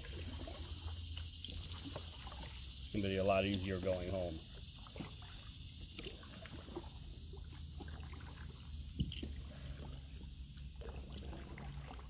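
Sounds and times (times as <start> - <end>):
kayak paddle splashing: 0.0 - 12.0.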